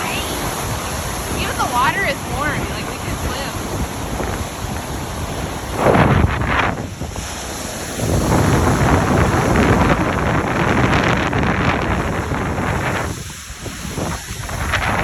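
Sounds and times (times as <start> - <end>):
gusting wind buffeting microphone: 0.0 - 15.0.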